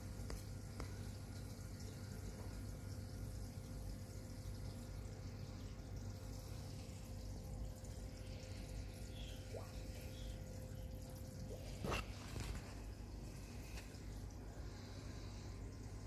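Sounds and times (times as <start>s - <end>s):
steady low hum: 0.0s - 16.0s
water trickling and dripping: 0.0s - 16.0s.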